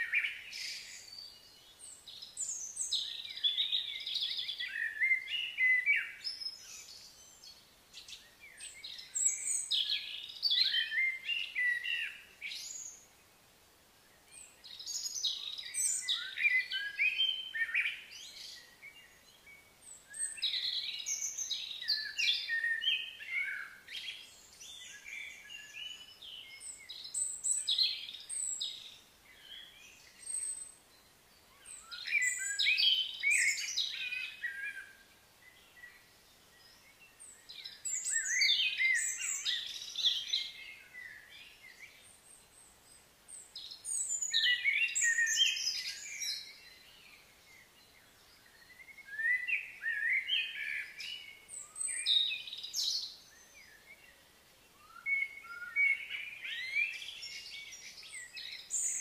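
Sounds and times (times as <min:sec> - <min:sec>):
songbirds chirping and whistling: 0:00.0 - 0:59.0.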